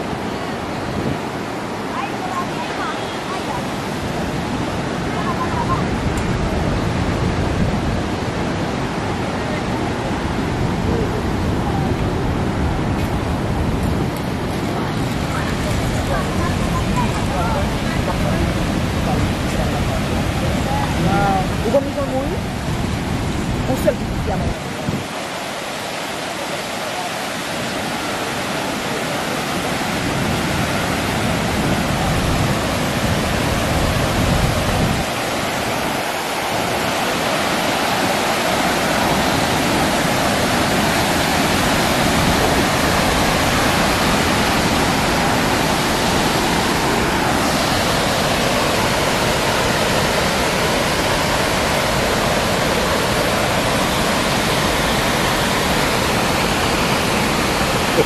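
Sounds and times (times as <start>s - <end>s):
water rushing over dam spillway: 0.0s - 58.0s.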